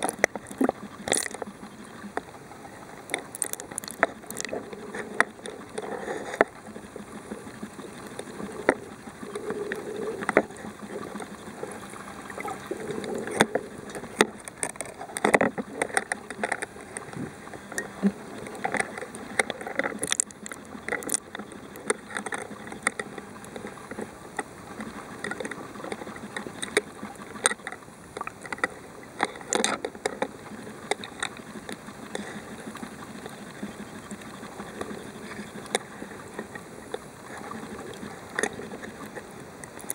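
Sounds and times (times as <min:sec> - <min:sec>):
muffled underwater rush: 0:00.0 - 0:39.9
sharp clicks and crackles: 0:00.0 - 0:39.9.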